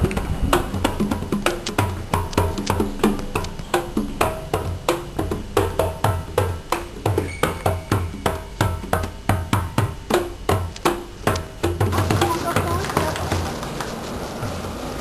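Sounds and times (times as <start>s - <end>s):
percussive struck notes: 0.0s - 13.5s.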